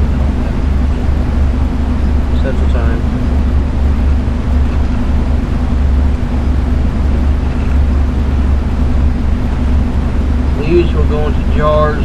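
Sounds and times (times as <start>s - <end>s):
faint hum: 0.0s - 12.0s
loud low rumble: 0.0s - 12.0s.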